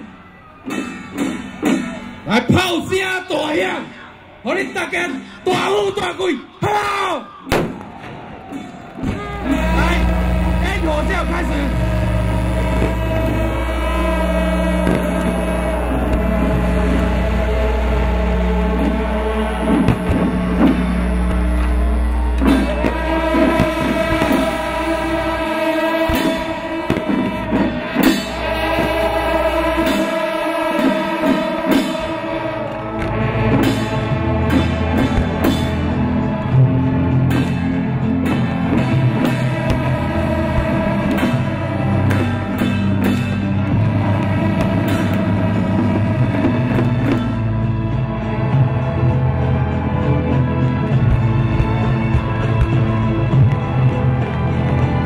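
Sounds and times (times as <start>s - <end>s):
loud rock music with singing: 7.4s - 55.0s.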